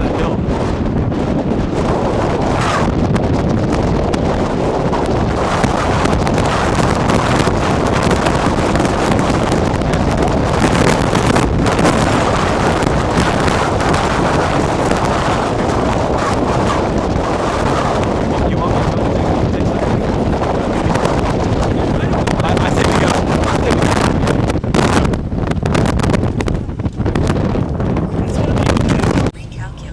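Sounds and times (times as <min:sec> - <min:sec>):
strong wind buffeting microphone: 0:00.0 - 0:29.9.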